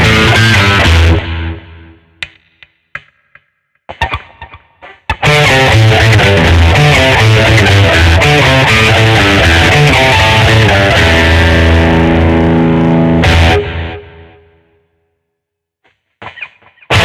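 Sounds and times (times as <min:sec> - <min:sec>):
distorted electric guitar riff: 0:00.0 - 0:02.2, 0:03.9 - 0:14.7, 0:16.2 - 0:17.0.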